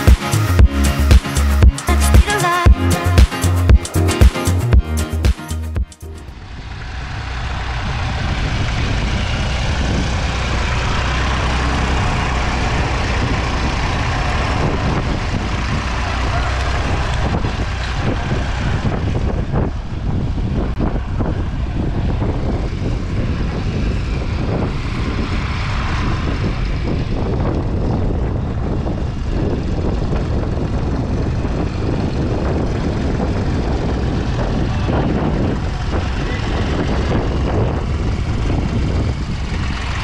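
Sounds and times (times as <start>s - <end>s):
tractor engine rumbling: 0.0s - 40.0s.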